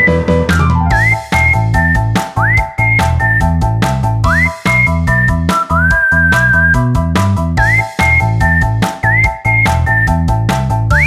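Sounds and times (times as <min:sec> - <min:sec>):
whistled melody: 0:00.0 - 0:03.6, 0:04.2 - 0:11.0
bass line and chords: 0:00.0 - 0:11.0.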